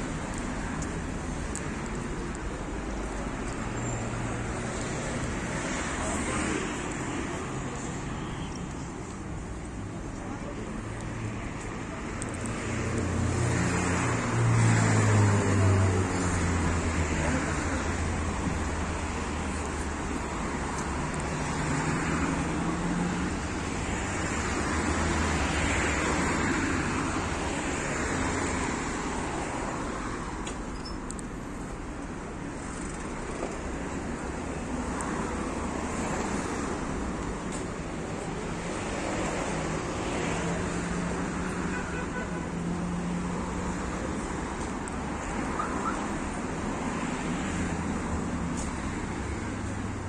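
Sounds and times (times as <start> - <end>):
cars passing: 0.0 - 50.0.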